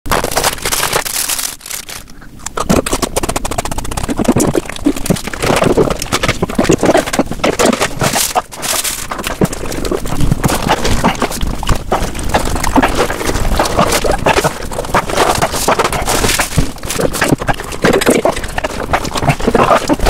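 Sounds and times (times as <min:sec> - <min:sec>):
food crunching and chewing: 0:00.1 - 0:20.0
snack package crackling: 0:00.1 - 0:20.0.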